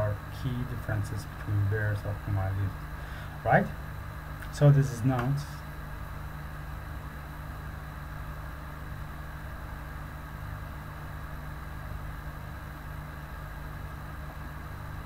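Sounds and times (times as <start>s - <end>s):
constant hiss: 0.0s - 15.0s
low hum: 0.0s - 15.0s.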